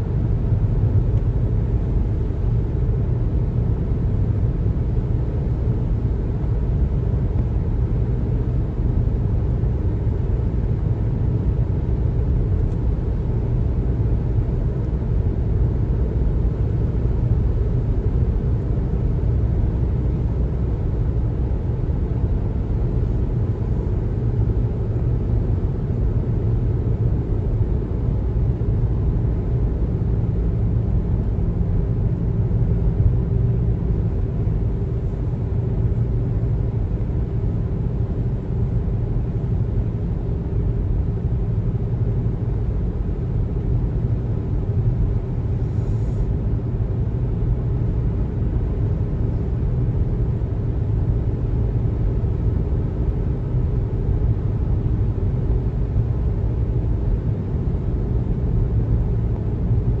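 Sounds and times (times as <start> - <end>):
car road noise at highway speed: 0.0 - 60.0.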